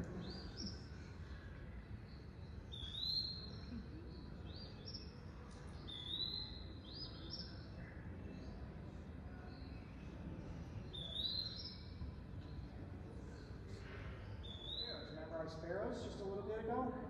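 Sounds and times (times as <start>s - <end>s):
recorded birdsong over speakers: 0.0s - 17.0s.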